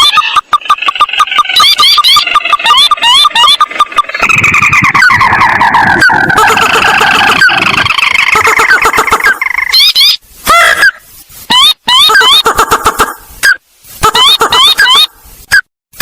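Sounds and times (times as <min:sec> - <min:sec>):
bird rapid call notes: 0:00.0 - 0:15.7.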